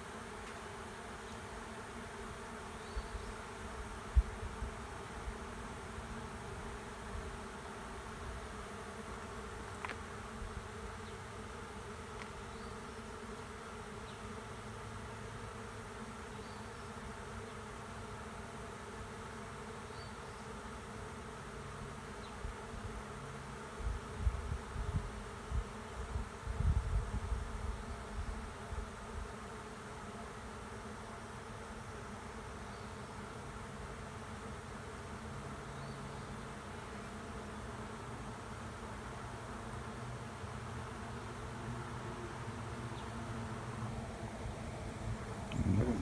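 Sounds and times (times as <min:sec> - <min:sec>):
bee swarm buzzing: 0:00.0 - 0:46.0.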